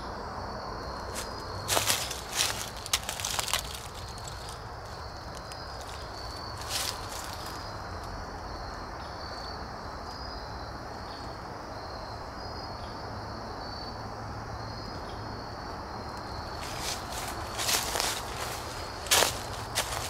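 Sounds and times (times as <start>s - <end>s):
constant hiss: 0.0s - 20.0s
crickets chirping: 0.0s - 20.0s.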